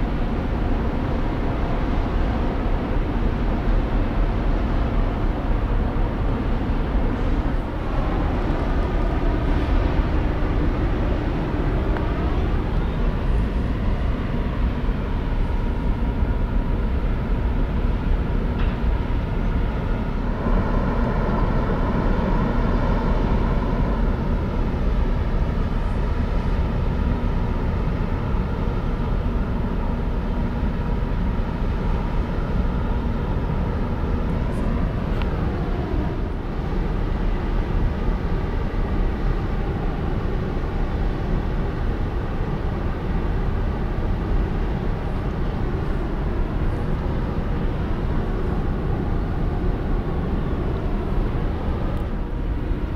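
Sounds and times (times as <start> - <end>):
ferry diesel engines rumbling: 0.0 - 52.9.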